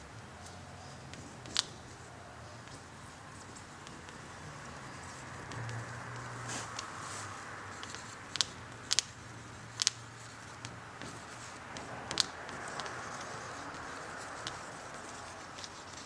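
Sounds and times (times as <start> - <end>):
pen ticking and scraping on glass: 0.4 - 16.0.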